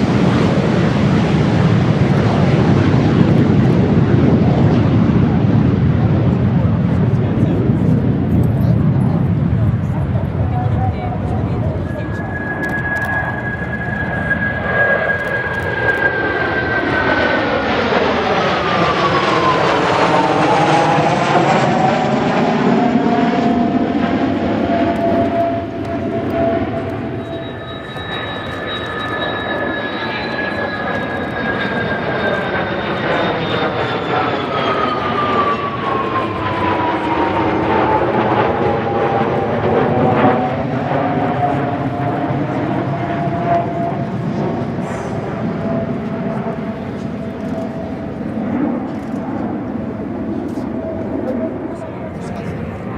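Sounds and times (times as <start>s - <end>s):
jet planes flying past: 0.0s - 52.9s
steady jet roar: 0.0s - 52.9s.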